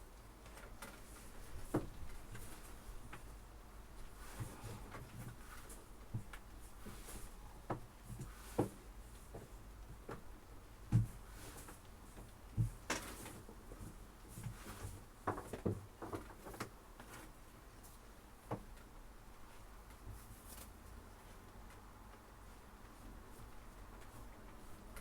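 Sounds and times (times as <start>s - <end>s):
nets and ropes knocking and rustling: 0.4s - 3.3s, 4.0s - 25.0s.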